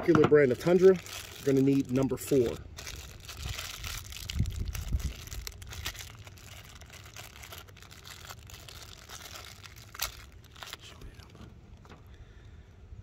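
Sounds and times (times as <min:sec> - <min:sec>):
packaging crinkling: 0:00.4 - 0:11.9.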